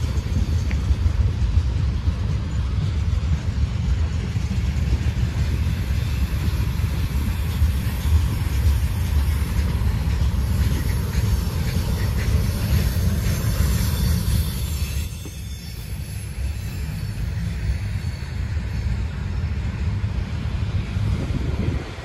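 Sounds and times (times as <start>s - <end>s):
freight train rumbling on rails: 0.0s - 22.0s.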